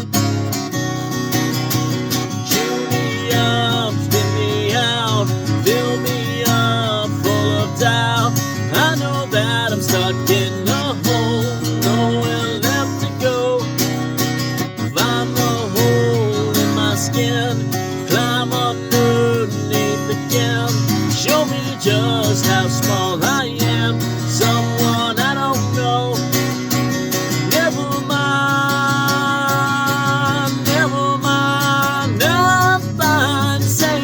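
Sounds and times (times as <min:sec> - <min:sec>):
acoustic guitar strumming: 0:00.0 - 0:34.0
bass: 0:00.0 - 0:34.0.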